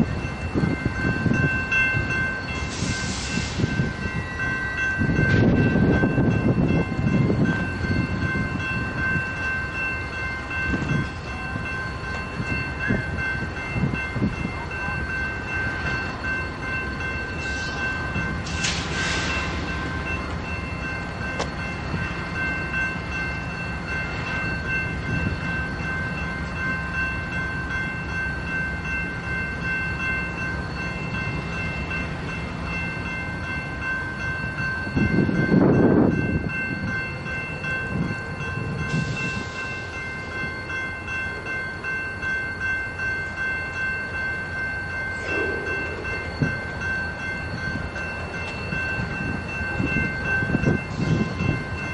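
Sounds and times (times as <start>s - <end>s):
crossing warning bell ringing: 0.0s - 51.9s.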